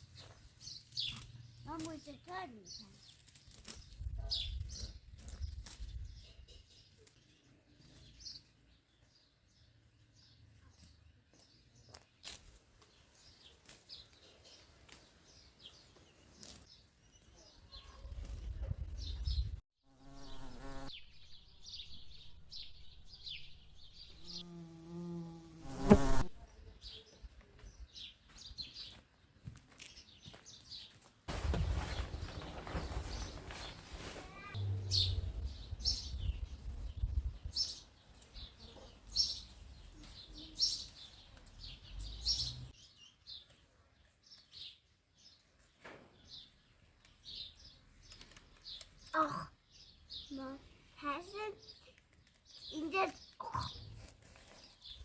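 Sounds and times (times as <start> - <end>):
small birds chirping: 0.0 - 19.6, 20.6 - 24.6, 25.7 - 55.0.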